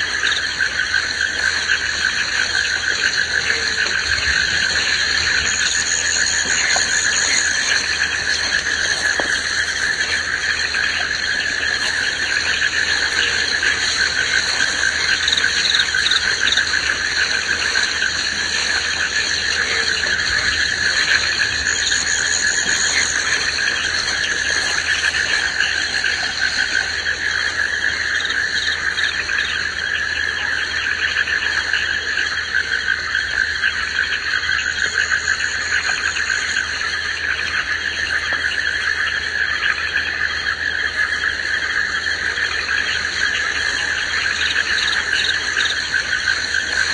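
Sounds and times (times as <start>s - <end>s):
frogs trilling: 0.0s - 46.9s
insects trilling: 0.0s - 46.9s.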